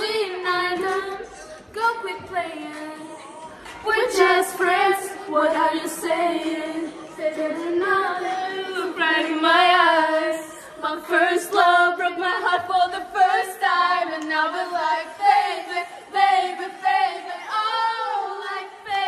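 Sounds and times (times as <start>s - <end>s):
girls singing together: 0.0s - 19.0s.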